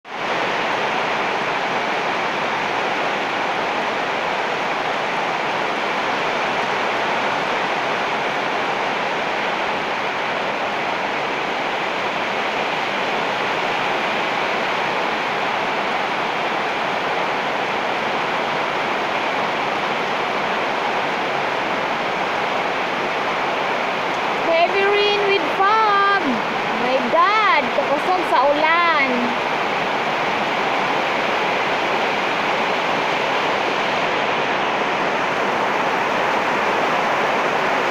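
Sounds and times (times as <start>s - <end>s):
heavy rain on leaves: 0.0s - 37.9s.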